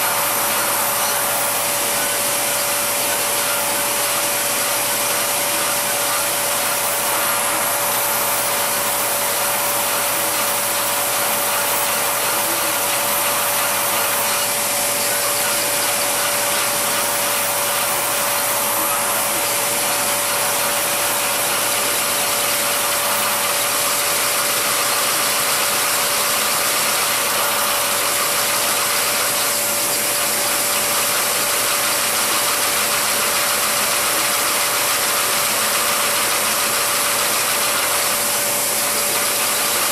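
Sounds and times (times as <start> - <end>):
vacuum hissing and whining: 0.0 - 39.9.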